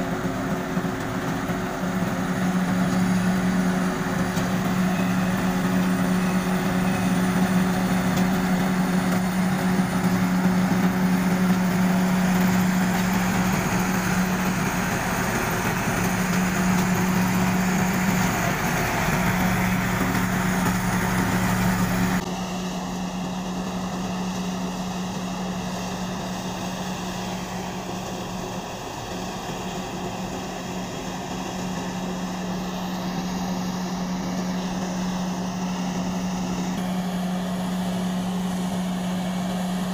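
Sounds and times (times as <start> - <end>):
harvester engine and machinery: 0.0 - 39.9.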